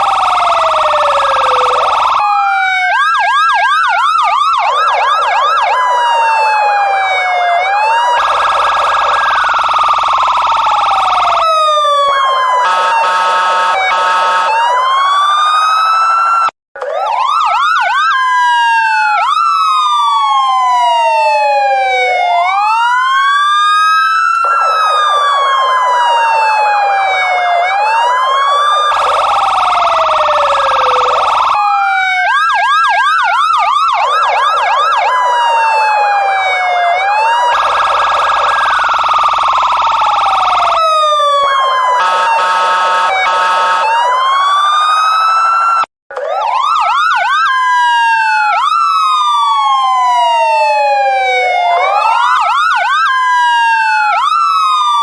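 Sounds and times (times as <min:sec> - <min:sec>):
police siren: 0:00.0 - 0:55.0.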